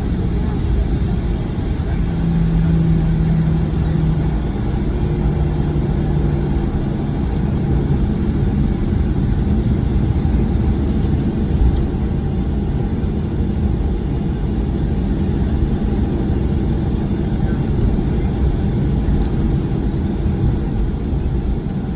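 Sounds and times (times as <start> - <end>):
airplane cabin rumble: 0.0 - 21.9.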